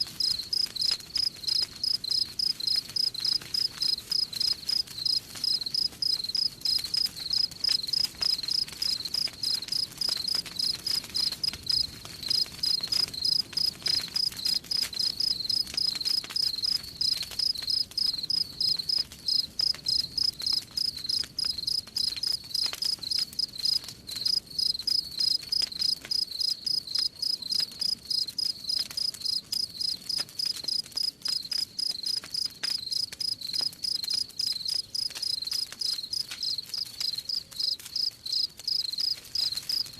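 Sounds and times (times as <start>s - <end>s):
faint campfire crackling: 0.0s - 39.9s
crickets chirping: 0.2s - 39.9s.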